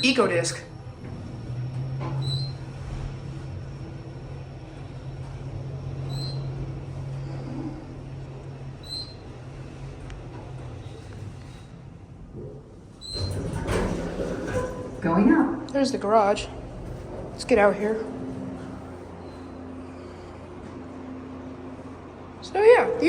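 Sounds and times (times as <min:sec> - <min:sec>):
elevator car humming: 0:00.0 - 0:23.0.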